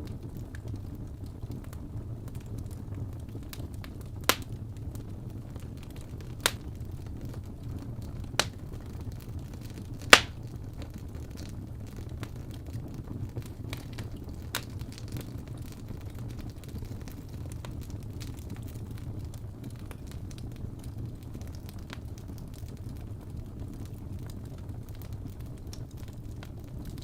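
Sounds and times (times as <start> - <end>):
fire popping: 0.0 - 27.0
wood fire crackling: 0.0 - 27.0.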